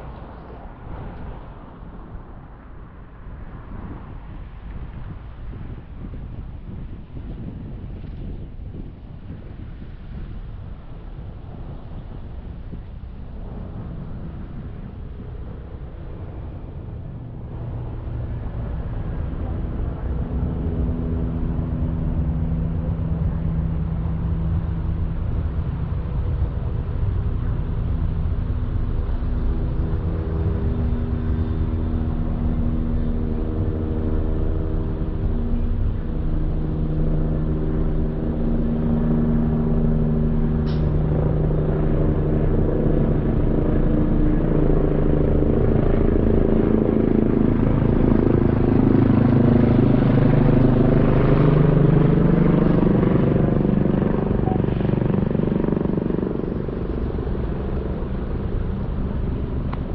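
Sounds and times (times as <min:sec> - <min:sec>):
helicopter hovering overhead: 0:00.0 - 0:59.9.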